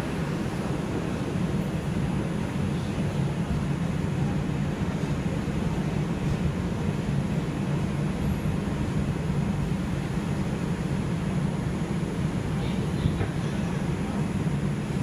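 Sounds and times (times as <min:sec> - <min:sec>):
subway car rumbling on rails: 0:00.0 - 0:15.0.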